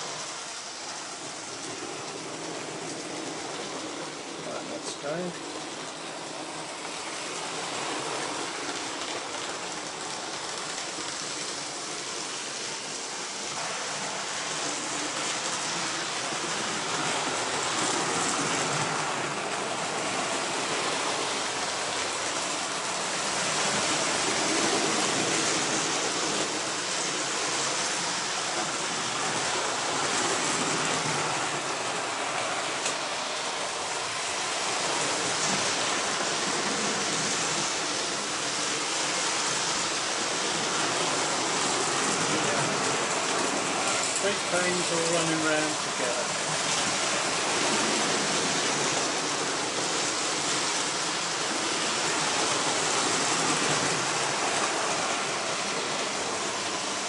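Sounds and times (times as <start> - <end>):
model train motors whirring: 4.8 - 56.8.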